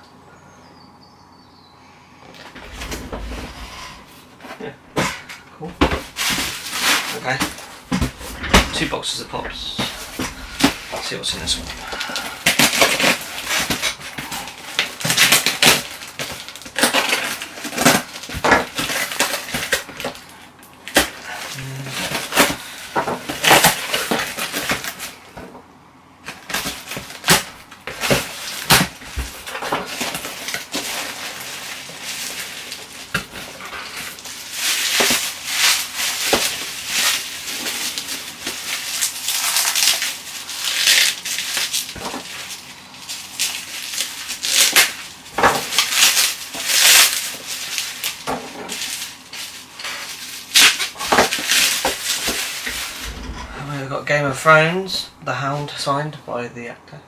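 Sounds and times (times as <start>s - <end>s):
rummaging through packing peanuts: 2.4s - 25.4s, 26.2s - 53.9s
bubble wrap crinkling: 5.9s - 25.2s, 26.3s - 53.2s.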